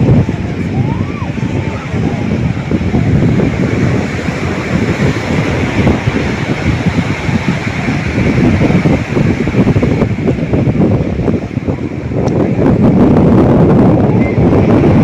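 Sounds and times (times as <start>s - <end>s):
sea surf washing onto beach: 0.0s - 15.0s
wind buffeting microphone: 0.0s - 15.0s.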